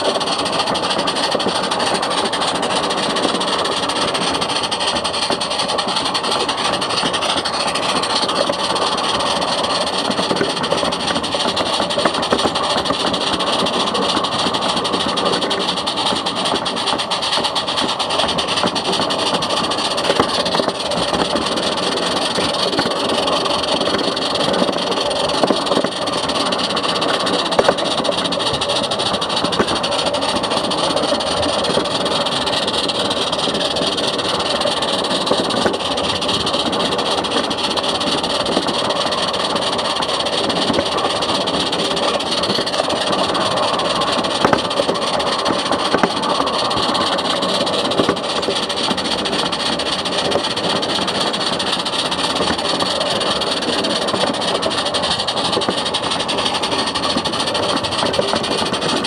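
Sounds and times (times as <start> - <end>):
train wheels clattering on rails: 0.0 - 59.0.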